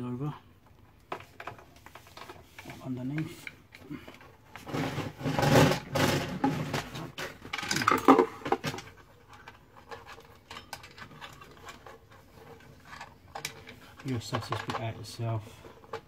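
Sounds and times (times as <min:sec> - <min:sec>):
plastic rustling and scraping: 0:00.7 - 0:16.0.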